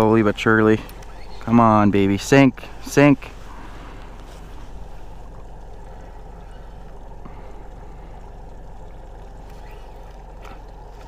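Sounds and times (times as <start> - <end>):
boat background noise: 0.0 - 11.0
water lapping against hull: 0.0 - 11.0.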